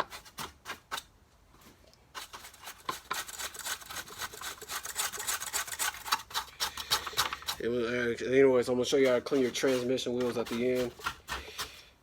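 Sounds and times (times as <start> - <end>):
plastic scraping and rubbing: 0.0 - 7.6, 8.8 - 11.7.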